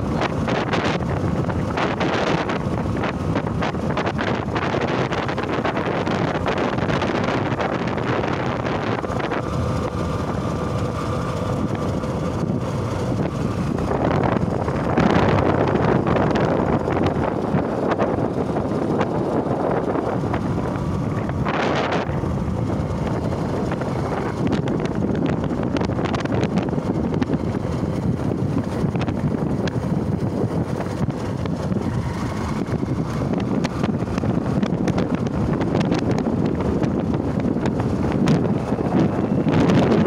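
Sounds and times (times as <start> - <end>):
motorcycle running: 0.0 - 40.0
wind buffeting microphone: 0.0 - 40.0.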